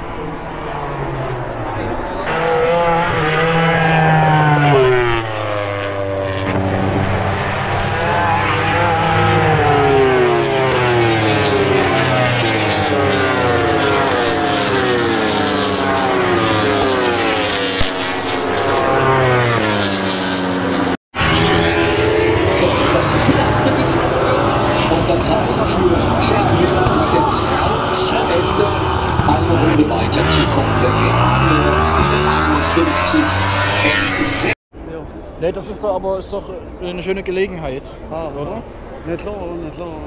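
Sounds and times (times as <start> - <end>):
race motorcycles passing at speed: 0.0 - 34.6.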